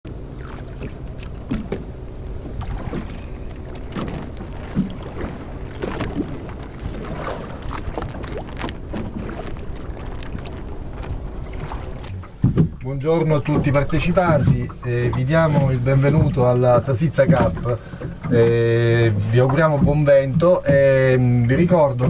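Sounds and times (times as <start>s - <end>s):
motorboat engine humming: 0.0s - 22.0s
water splashing against hull: 0.1s - 22.0s.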